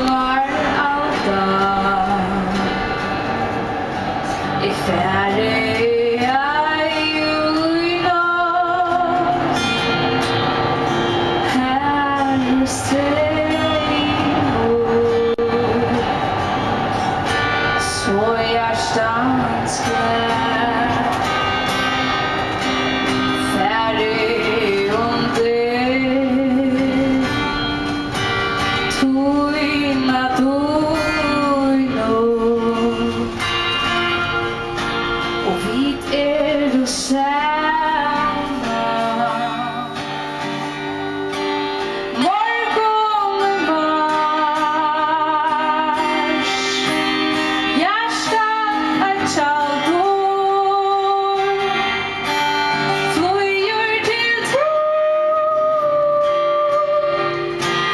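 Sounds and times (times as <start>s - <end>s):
woman singing: 0.0s - 3.2s, 4.2s - 10.0s, 11.2s - 16.1s, 17.5s - 22.0s, 22.7s - 27.8s, 28.8s - 33.4s, 35.3s - 57.9s
acoustic guitar: 0.0s - 57.9s.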